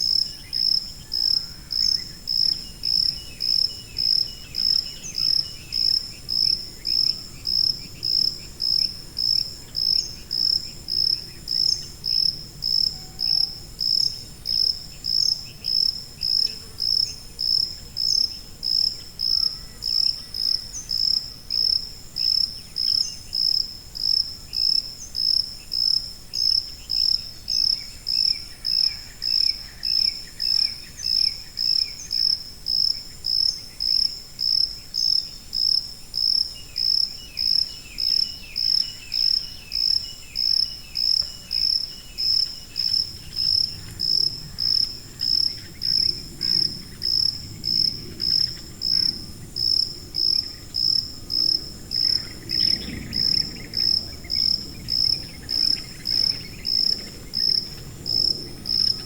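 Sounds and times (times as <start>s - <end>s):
cricket chirping: 0.0s - 59.0s
faint insect calls: 0.0s - 59.0s.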